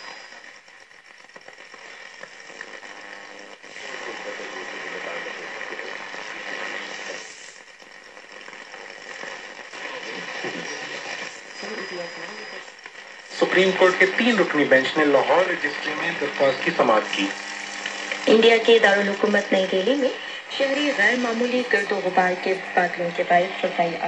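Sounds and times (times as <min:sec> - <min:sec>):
faint garbled radio broadcast: 0:00.0 - 0:24.0
radio static and hiss: 0:00.0 - 0:24.0.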